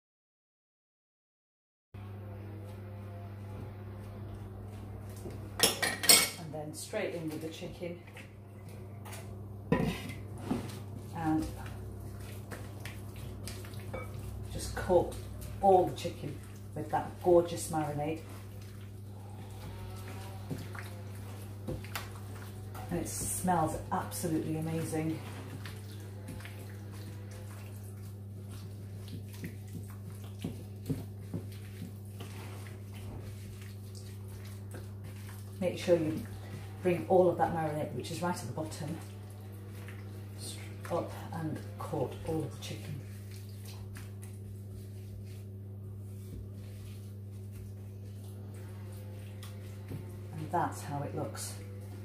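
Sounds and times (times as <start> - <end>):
steady low hum: 2.0 - 52.0
wet squelches of mixing: 2.0 - 52.0.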